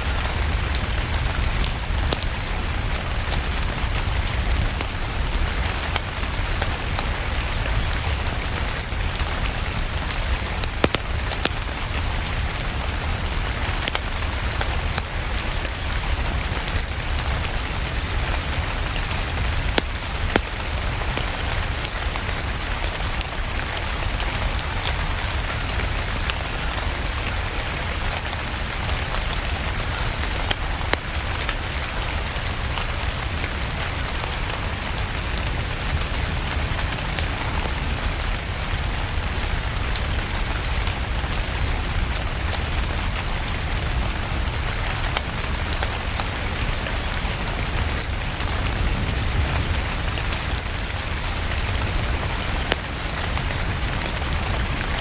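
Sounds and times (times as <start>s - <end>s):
fireplace crackling: 0.0s - 55.0s
steady rain: 0.0s - 55.0s.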